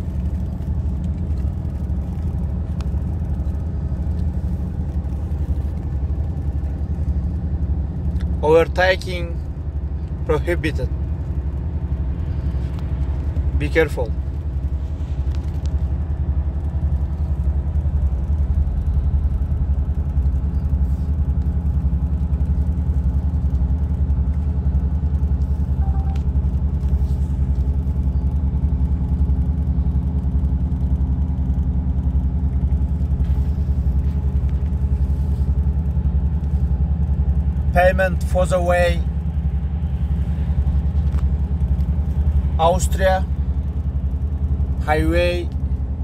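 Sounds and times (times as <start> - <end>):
diesel truck engine drone: 0.0 - 46.0.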